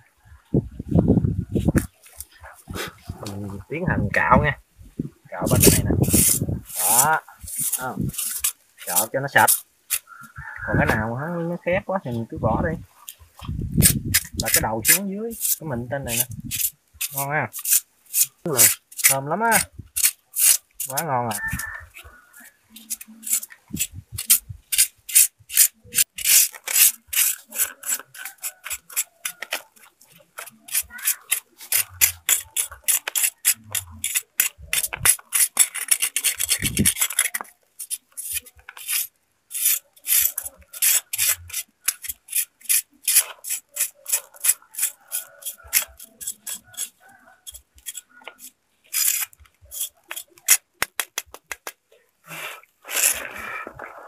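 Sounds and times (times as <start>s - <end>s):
blade scraping fish skin: 5.5s - 10.0s, 13.8s - 51.1s, 52.4s - 53.9s.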